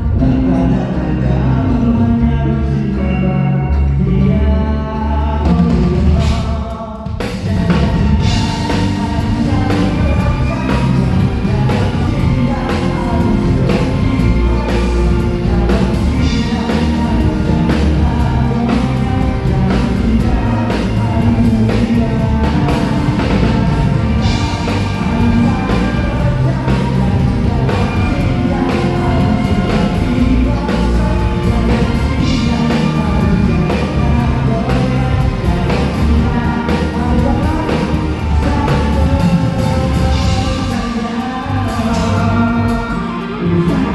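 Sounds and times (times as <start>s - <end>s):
live rock band playing: 0.0s - 43.9s
person singing: 0.0s - 43.9s.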